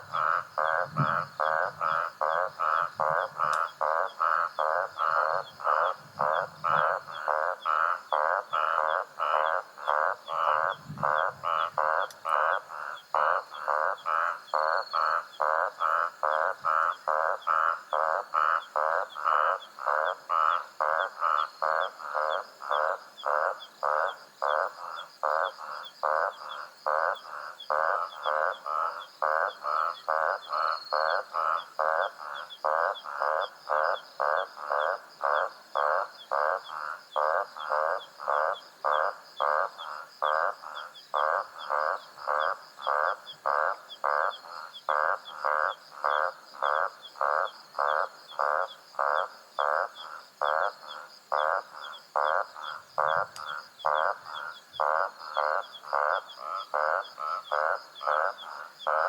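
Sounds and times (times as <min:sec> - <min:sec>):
frog croaking: 0:00.0 - 0:59.0.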